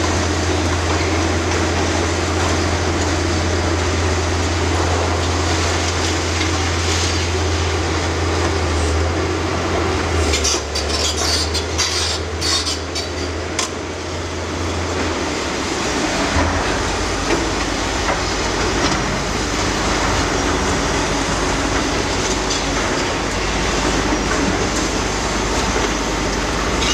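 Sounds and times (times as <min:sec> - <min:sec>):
excavator engine drone: 0:00.0 - 0:26.9.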